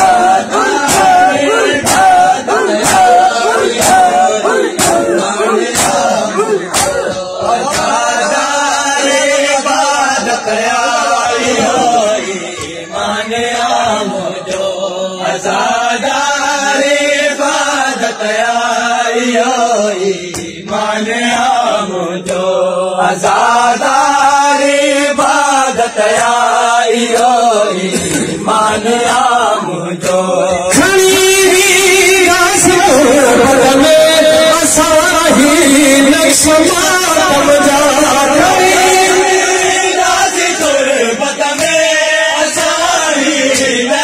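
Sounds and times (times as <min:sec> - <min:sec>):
men chanting a mourning lament: 0:00.0 - 0:44.0.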